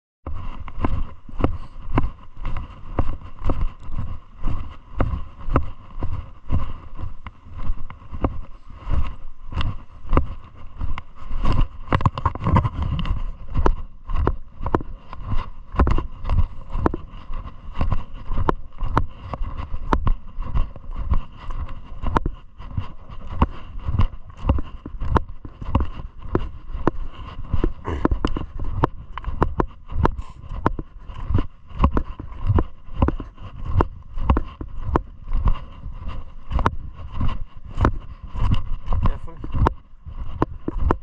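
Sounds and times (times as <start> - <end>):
footsteps on gravel: 0.3 - 41.0.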